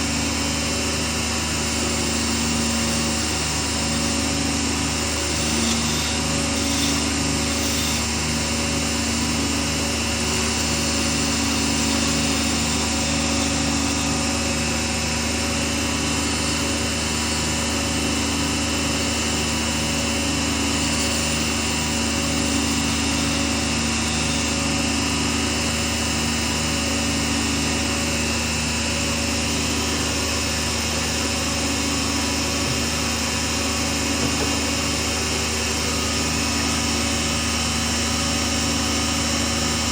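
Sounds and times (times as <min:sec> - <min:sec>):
lathe motor humming: 0:00.0 - 0:38.1.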